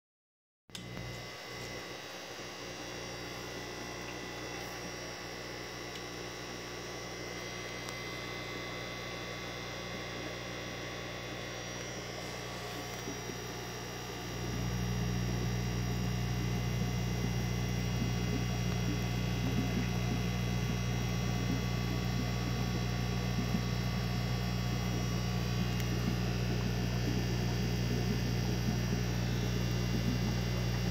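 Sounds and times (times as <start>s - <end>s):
aquarium equipment humming: 0.7s - 30.9s.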